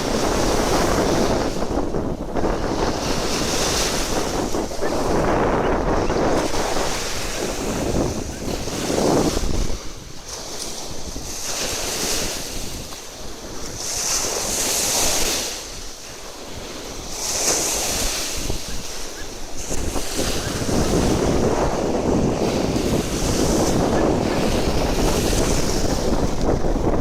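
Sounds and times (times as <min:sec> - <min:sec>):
sea waves washing ashore: 0:00.0 - 0:27.0
wind buffeting microphone: 0:00.0 - 0:27.0.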